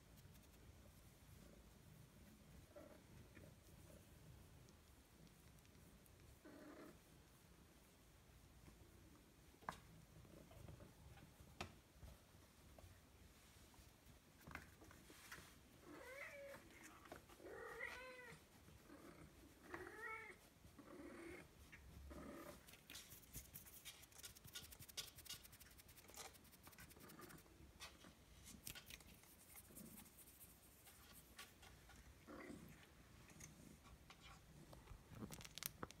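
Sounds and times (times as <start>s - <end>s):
faint rustling: 0.0s - 36.0s.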